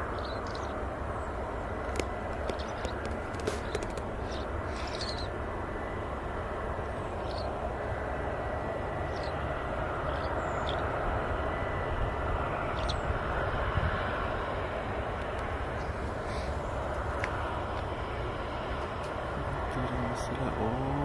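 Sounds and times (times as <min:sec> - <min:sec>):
jet rumble: 0:00.0 - 0:21.0.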